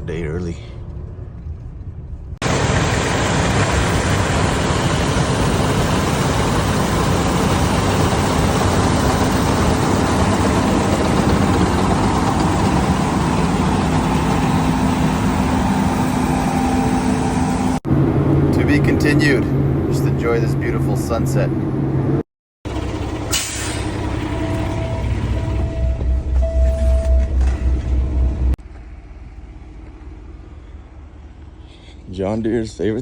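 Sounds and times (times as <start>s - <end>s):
diesel engine running: 0.0s - 32.3s.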